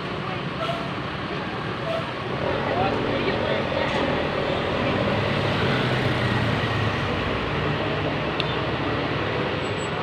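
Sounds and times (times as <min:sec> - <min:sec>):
heavy vehicle engine running: 0:00.0 - 0:10.0
road noise: 0:00.0 - 0:10.0.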